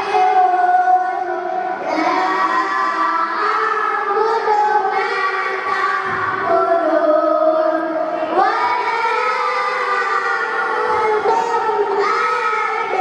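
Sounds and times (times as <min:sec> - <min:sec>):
children singing in chorus: 0:00.0 - 0:13.0.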